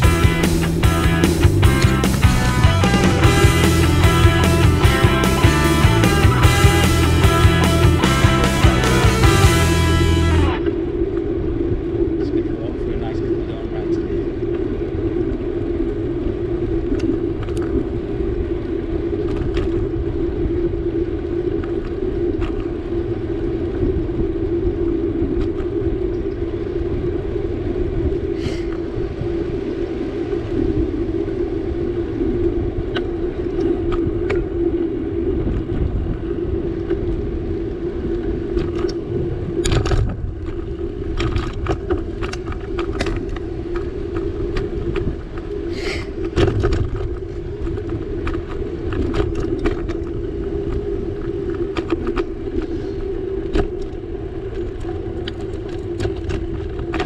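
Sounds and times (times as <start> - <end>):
bicycle tyre noise: 0.0 - 57.0
wind rumble on microphone: 0.0 - 57.0.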